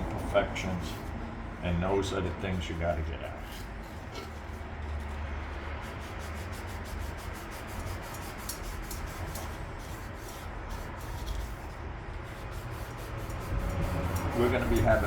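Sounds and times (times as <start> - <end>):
rag wiping motor hood: 0.0 - 4.6, 5.8 - 15.0.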